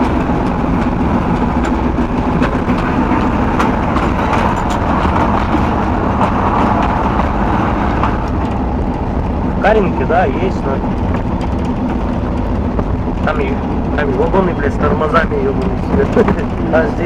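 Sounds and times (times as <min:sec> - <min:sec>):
clicks and rattles: 0:00.0 - 0:17.0
diesel locomotive engine drone: 0:00.0 - 0:17.0.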